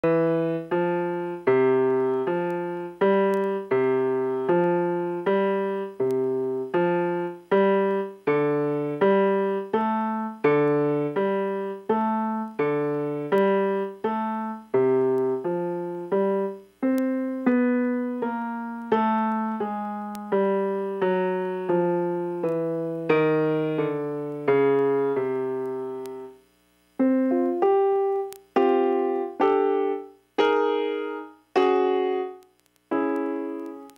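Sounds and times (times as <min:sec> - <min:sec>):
electric piano chords: 0:00.0 - 0:26.4, 0:27.0 - 0:33.9.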